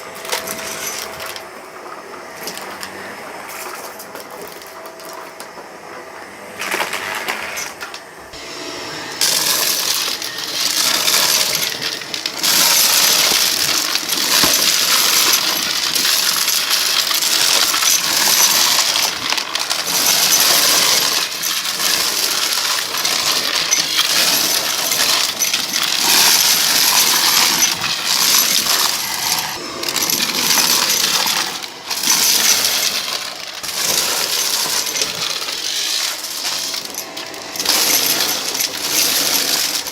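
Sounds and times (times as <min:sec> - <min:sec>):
debris rattling through vacuum: 0:00.0 - 0:05.6, 0:06.4 - 0:39.9
vacuum cleaner sucking debris: 0:00.0 - 0:39.9.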